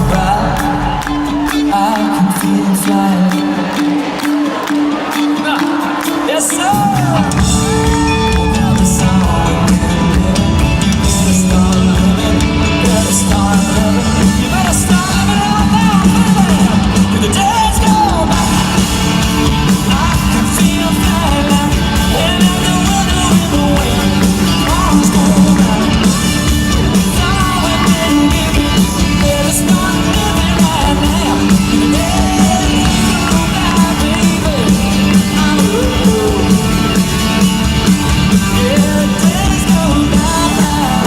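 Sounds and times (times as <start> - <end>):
country-rock band playing live: 0.0 - 41.0
crowd yelling: 0.0 - 41.0
person singing: 0.0 - 41.0.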